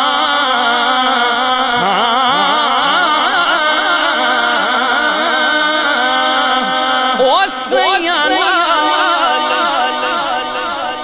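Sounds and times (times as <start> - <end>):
man singing with heavy echo: 0.0 - 11.0.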